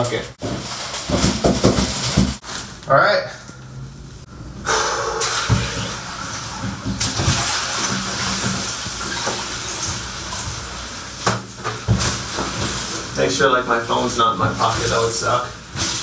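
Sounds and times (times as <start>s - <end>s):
water sloshing in bathtub: 0.0s - 2.4s, 5.2s - 16.0s.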